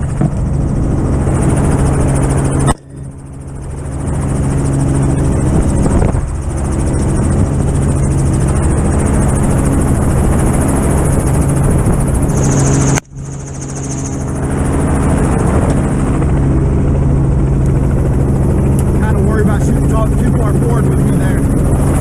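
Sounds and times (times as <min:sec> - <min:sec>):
helicopter rotor noise: 0:00.0 - 0:22.0.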